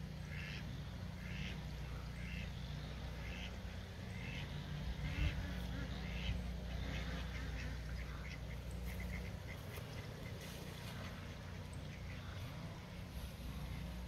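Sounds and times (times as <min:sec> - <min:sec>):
ducks quacking: 0:00.0 - 0:14.0
steady low rumble: 0:00.0 - 0:14.0.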